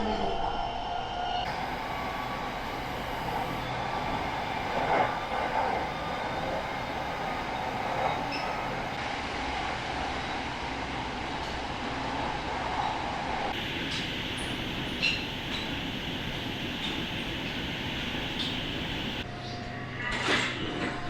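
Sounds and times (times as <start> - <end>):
electric train running on rails: 0.1 - 19.5.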